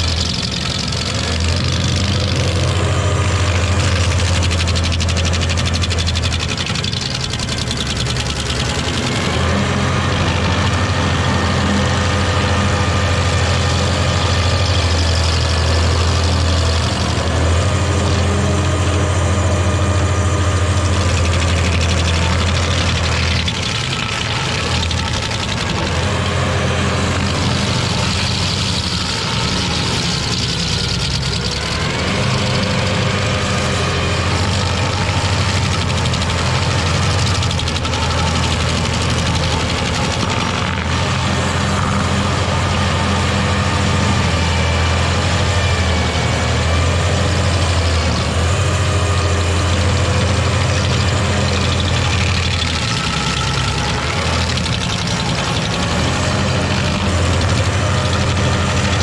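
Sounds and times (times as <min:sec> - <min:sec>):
cutter wheel grinding stump: 0:00.0 - 0:59.0
stump grinder engine running: 0:00.0 - 0:59.0.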